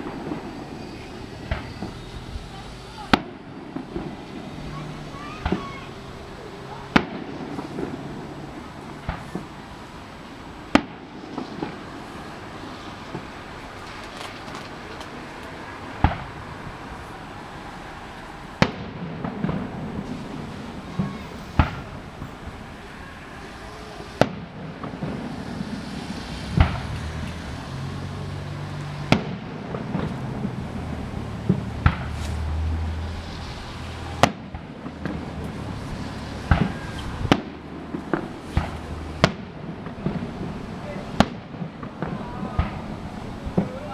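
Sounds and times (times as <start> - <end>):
fireworks bangs: 0.0 - 43.9
fireworks crackling: 0.0 - 43.9.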